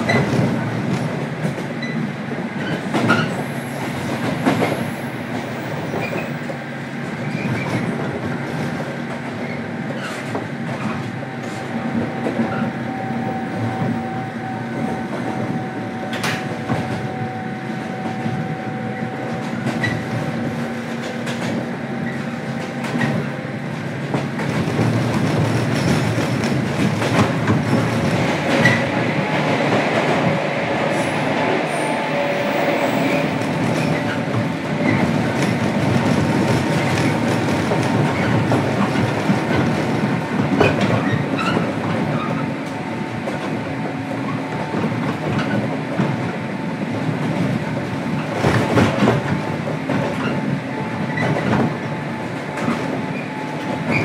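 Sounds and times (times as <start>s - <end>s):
clickety-clack over rail joints: 0.0s - 31.7s, 32.7s - 54.0s
train running rumble: 0.0s - 54.0s.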